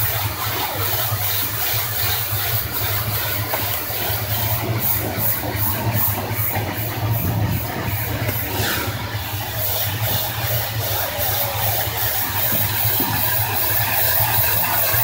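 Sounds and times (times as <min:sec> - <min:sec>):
pressure washer motor hum: 0:00.0 - 0:15.0
water jet hissing: 0:00.0 - 0:15.0.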